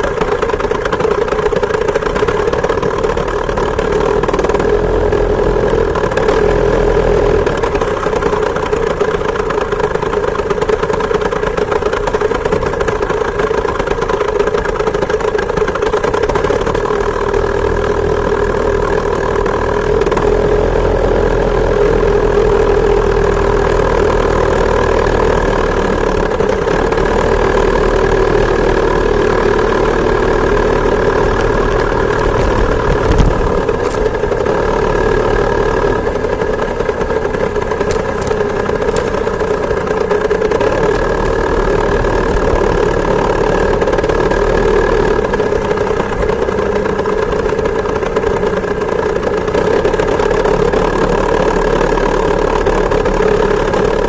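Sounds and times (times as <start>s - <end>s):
two-stroke engine running: 0.0s - 54.0s.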